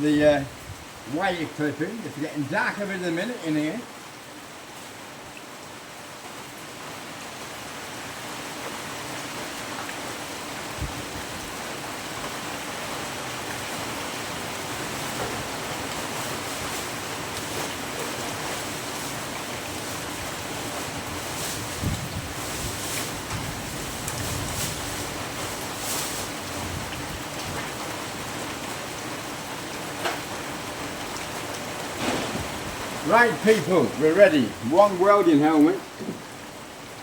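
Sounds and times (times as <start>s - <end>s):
steady rain hissing: 0.0s - 37.0s.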